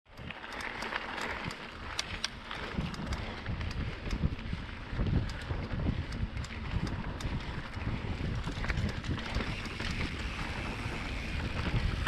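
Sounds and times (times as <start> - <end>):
bike clicks and knocks: 0.1 - 12.0
bike tyres rumbling on dirt: 0.1 - 12.0
wind noise on microphone: 0.2 - 12.0.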